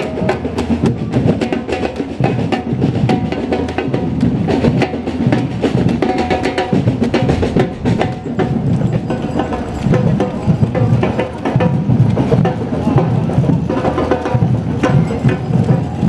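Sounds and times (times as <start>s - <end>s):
drums and percussion playing: 0.0s - 16.0s.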